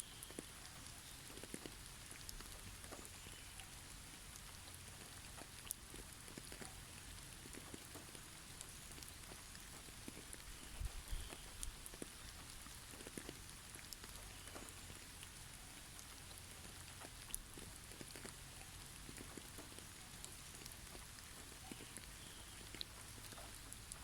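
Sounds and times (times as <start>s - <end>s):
faint steady hiss: 0.0s - 24.0s
soft patter of light ticks: 0.0s - 24.0s.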